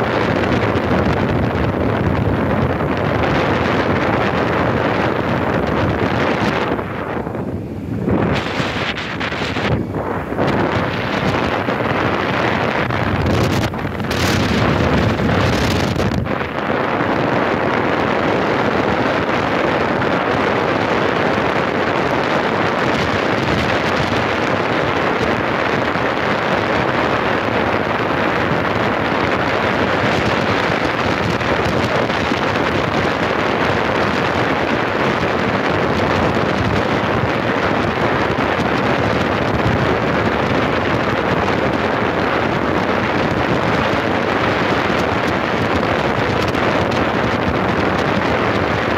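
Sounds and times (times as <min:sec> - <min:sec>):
vehicle road noise: 0:00.0 - 0:48.9
wind on microphone: 0:00.0 - 0:48.9.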